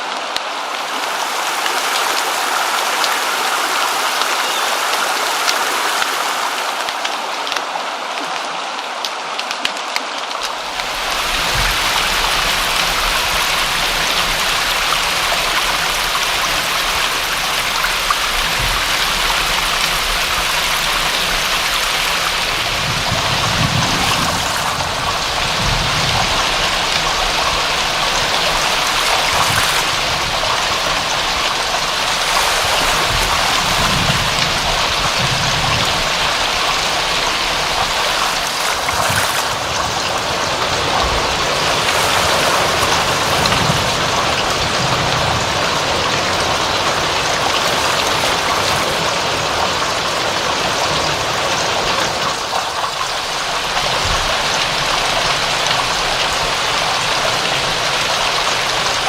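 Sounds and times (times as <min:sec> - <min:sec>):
deep rush of water: 0:00.0 - 0:59.0
rain with clicking drops: 0:00.0 - 0:59.0.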